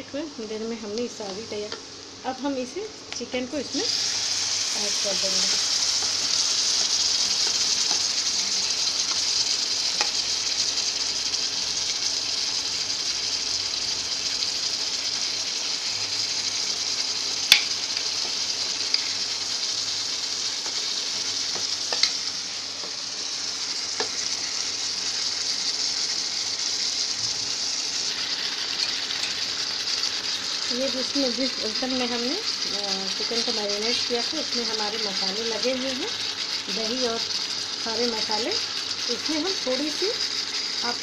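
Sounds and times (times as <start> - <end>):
chicken sizzling in hot oil: 0.4 - 41.0.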